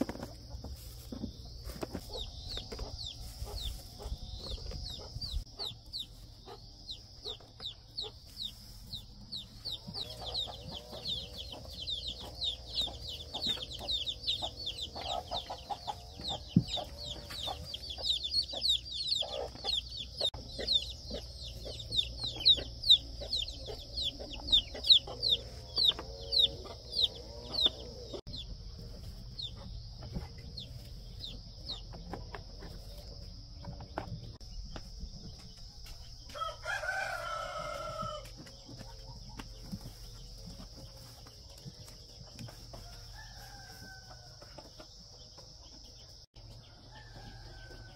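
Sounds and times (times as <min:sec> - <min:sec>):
chickens clucking: 0:00.0 - 0:47.9.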